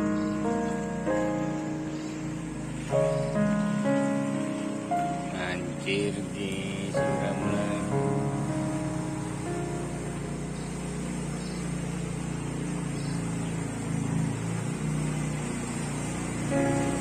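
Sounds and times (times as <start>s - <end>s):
motor scooter engine running: 0.0s - 17.0s.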